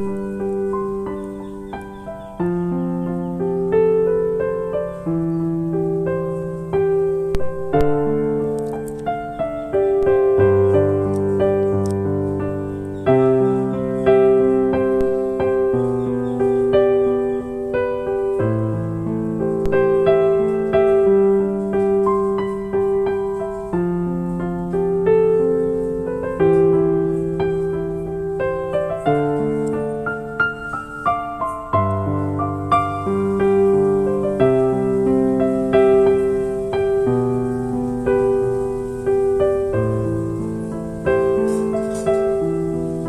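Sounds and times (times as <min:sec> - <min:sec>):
slow gentle piano music: 0:00.0 - 0:43.0.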